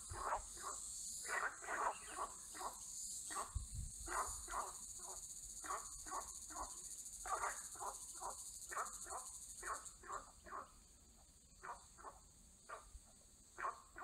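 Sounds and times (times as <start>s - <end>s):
frogs croaking: 0.0s - 10.9s, 11.5s - 14.0s
high insect chorus: 0.0s - 14.0s.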